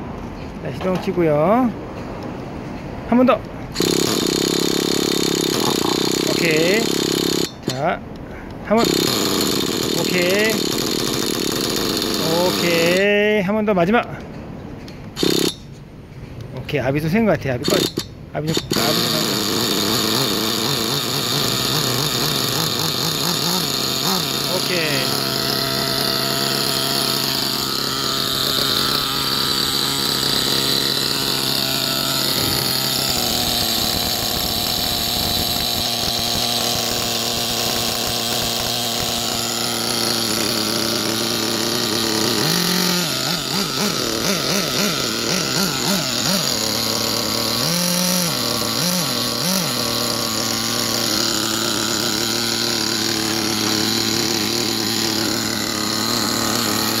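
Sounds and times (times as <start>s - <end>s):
nitro engine idling: 3.2s - 13.2s, 17.6s - 57.0s.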